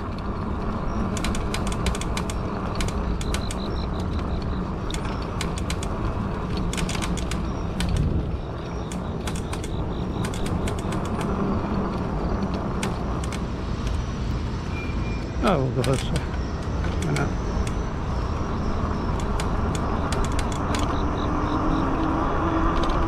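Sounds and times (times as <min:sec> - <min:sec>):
bike clicking and creaking: 0:00.0 - 0:23.0
rumble of tyres and wind: 0:00.0 - 0:23.0.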